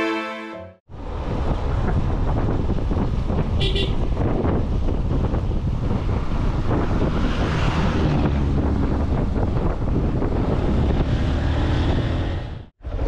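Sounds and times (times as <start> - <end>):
wind buffeting microphone: 0.9 - 13.0.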